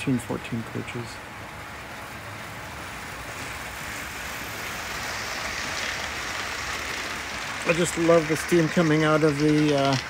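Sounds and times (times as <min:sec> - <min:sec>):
wheels rolling on rails: 0:00.0 - 0:10.0
model steam locomotive hissing: 0:01.7 - 0:10.0.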